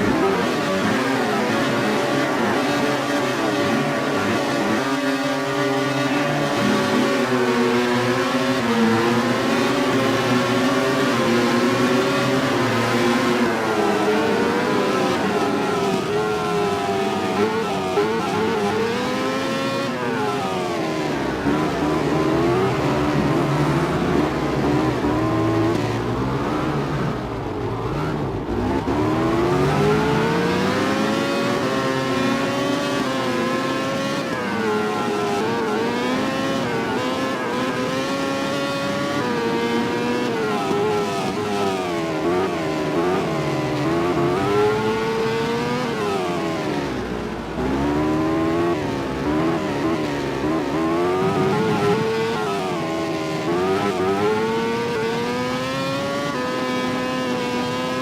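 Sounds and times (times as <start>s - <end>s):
racing motorcycles revving: 0.0s - 58.0s.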